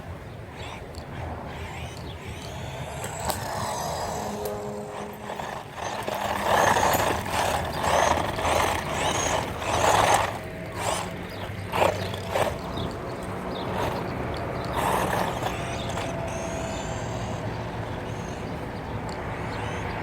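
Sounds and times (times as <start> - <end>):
rc car motor surging: 0.0 - 20.0.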